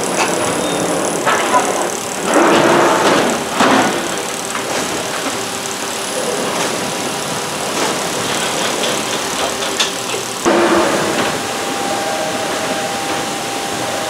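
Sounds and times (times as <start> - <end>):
machine whirring and rattling: 0.0 - 14.0.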